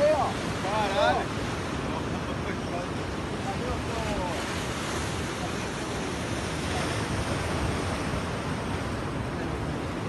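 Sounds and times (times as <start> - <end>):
surf breaking over rocks: 0.0 - 10.0
wind rumbling on microphone: 0.0 - 10.0.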